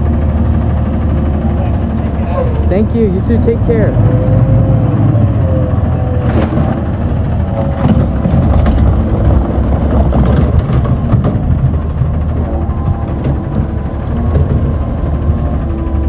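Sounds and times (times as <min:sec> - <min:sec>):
garbage truck engine running: 0:00.0 - 0:16.0
steady whine: 0:01.6 - 0:16.0.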